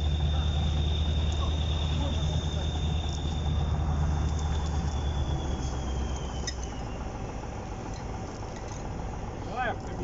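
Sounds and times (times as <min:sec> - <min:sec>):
high whine: 0:00.0 - 0:10.0
tractor diesel engine running: 0:00.0 - 0:10.0.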